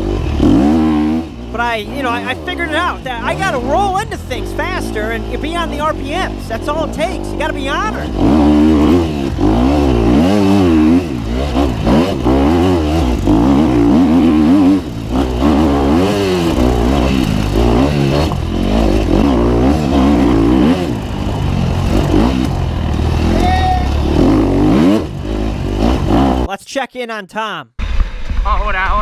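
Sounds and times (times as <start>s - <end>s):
dirt bike engine revving: 0.0s - 26.5s.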